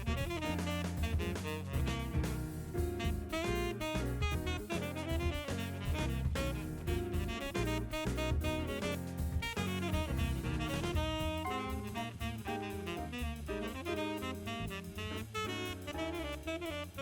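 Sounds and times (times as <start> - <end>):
drums: 0.0 - 17.0
piano: 0.0 - 17.0
saxophone: 0.0 - 17.0.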